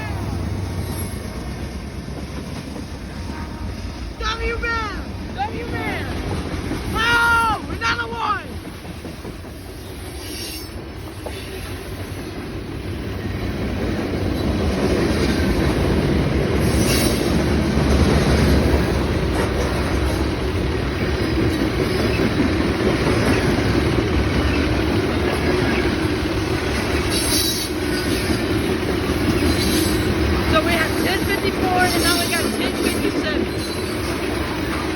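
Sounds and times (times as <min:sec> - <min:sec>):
freight train wheels rumbling on rails: 0:00.0 - 0:34.9.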